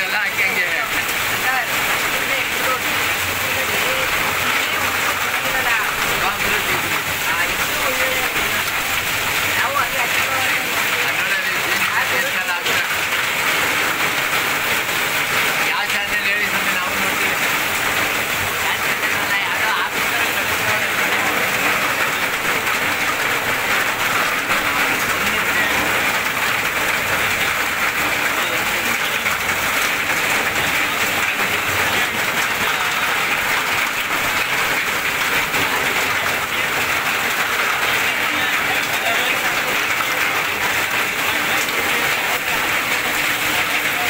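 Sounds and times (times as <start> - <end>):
heavy rain splashing into water: 0.0 - 44.0.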